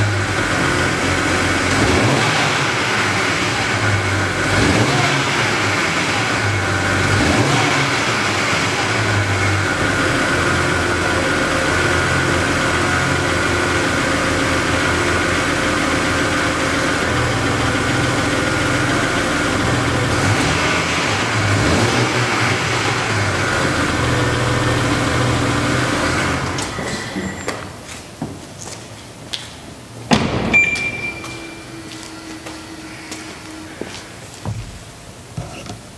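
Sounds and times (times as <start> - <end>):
car engine running: 0.0 - 26.9, 30.2 - 35.9.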